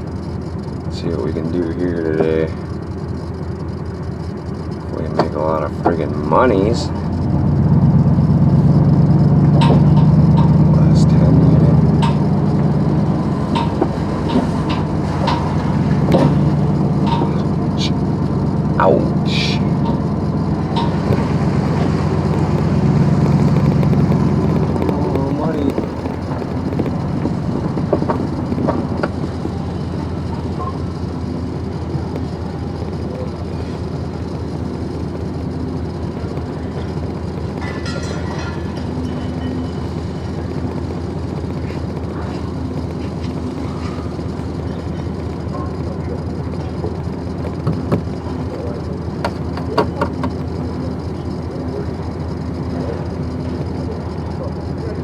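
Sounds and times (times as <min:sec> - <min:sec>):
vehicle engine running low rumble: 0:00.0 - 0:55.0.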